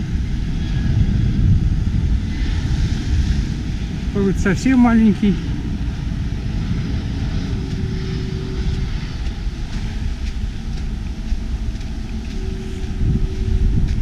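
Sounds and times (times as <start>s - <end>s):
distant jet engine rumble: 0.0s - 14.0s
faint hum: 0.0s - 14.0s.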